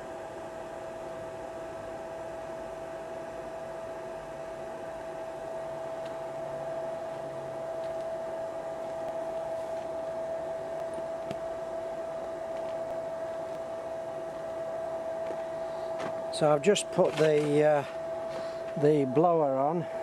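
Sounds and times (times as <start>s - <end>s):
electric air blower whining: 0.0s - 20.0s.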